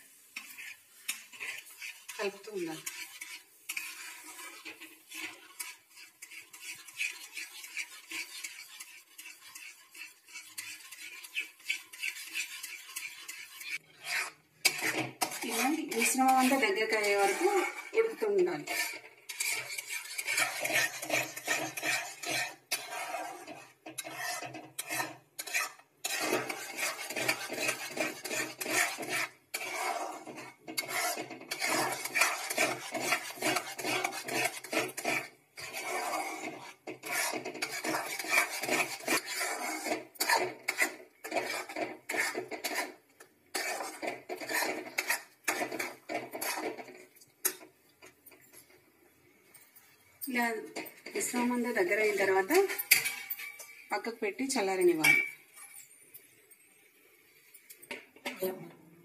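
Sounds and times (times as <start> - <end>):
metal spatula scraping batter in pan: 0.0 - 56.7.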